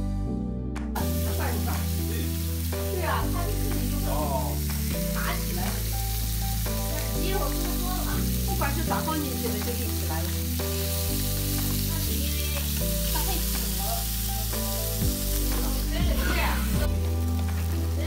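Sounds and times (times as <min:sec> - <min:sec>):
background music low notes: 0:00.0 - 0:18.0
fish sizzling in a pan: 0:01.0 - 0:18.0.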